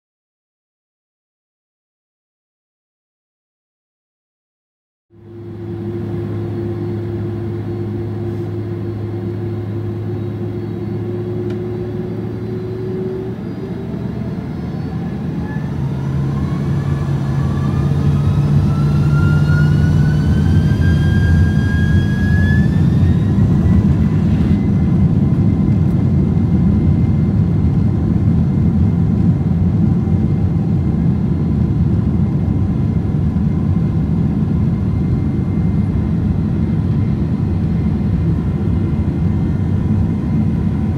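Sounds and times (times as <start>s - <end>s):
jet engine whine and roar: 5.1s - 40.9s.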